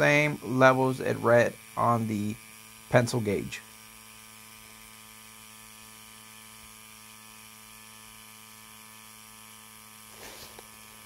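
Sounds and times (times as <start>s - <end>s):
tire inflator compressor humming: 0.0s - 11.0s.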